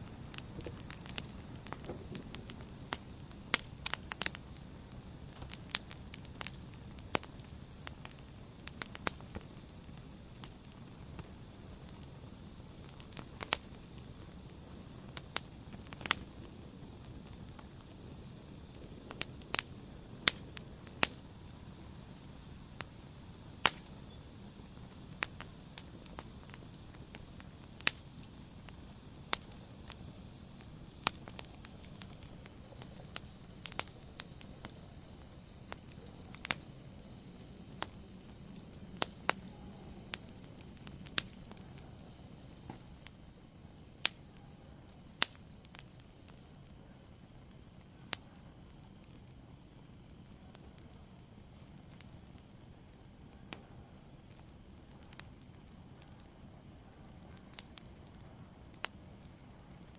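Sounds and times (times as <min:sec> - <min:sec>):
fireplace fire crackling: 0:00.0 - 0:59.9.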